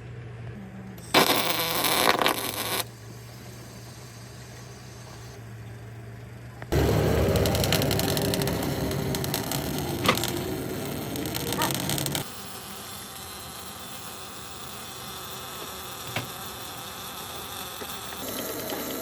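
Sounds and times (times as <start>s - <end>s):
buzzing power tool: 1.0s - 5.4s, 6.7s - 19.0s.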